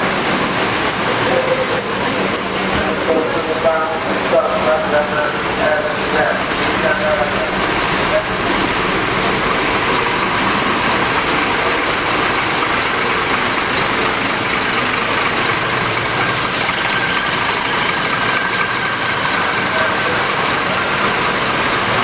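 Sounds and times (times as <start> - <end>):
bus engine drone: 0.0 - 22.0
road and cabin noise: 0.0 - 22.0.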